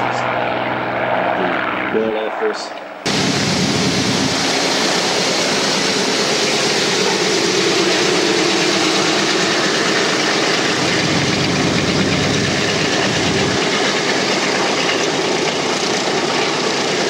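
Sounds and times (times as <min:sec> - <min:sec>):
piston aircraft engines running: 0:00.0 - 0:17.0.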